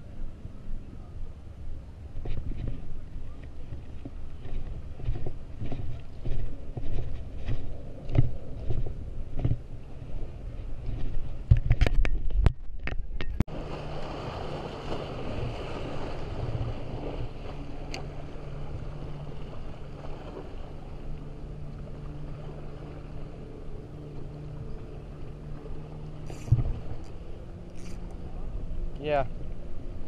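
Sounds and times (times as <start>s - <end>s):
low engine drone: 0.0s - 30.0s
water noise: 0.0s - 30.0s
wind: 0.0s - 30.0s.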